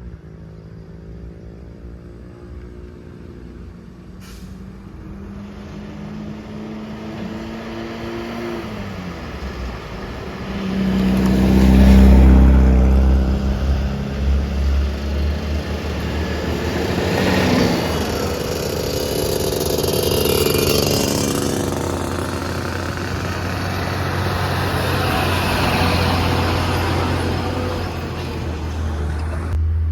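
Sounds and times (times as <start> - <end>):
truck engine rumble passing: 3.0 - 29.9
heavy truck engines straining: 4.1 - 29.9.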